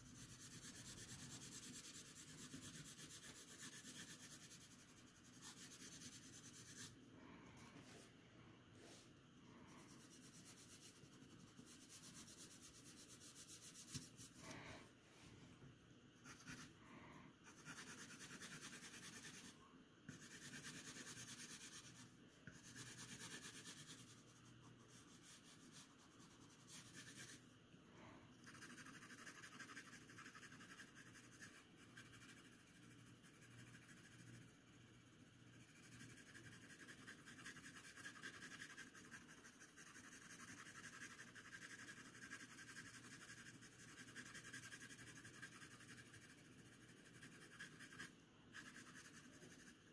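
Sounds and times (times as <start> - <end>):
pencil shading on paper: 0.0 - 7.0, 9.7 - 14.5, 16.2 - 16.7, 17.4 - 27.4, 28.4 - 49.9.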